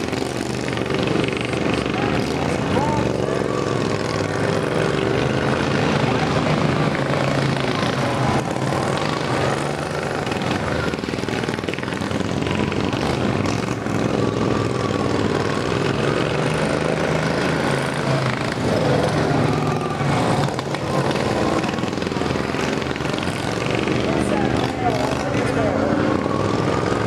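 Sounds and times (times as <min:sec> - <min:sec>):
small engines racing: 0:00.0 - 0:27.0.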